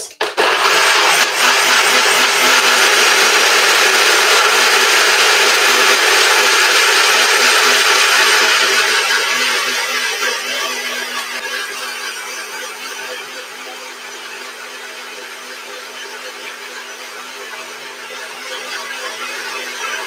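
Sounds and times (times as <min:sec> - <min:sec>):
blender whirring: 0:00.0 - 0:20.0.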